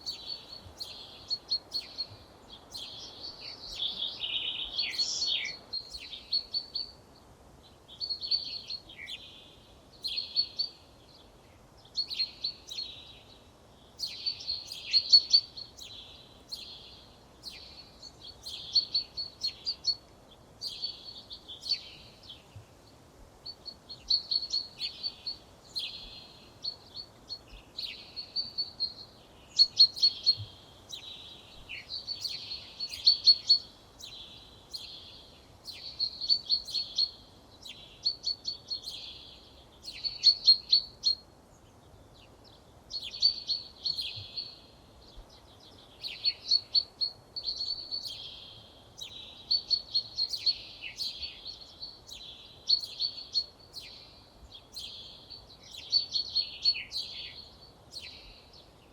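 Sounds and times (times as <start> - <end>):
faint steady background hiss: 0.0 - 58.9
songbirds singing: 0.0 - 58.9.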